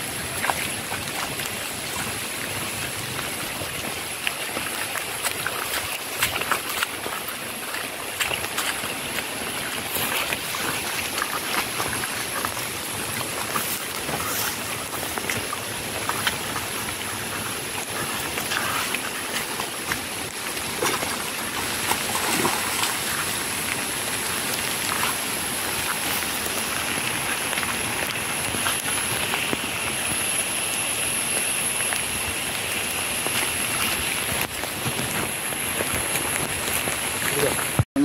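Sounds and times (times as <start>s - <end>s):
footsteps on wet muddy ground: 0.0s - 38.0s
steady rain falling: 0.0s - 38.0s.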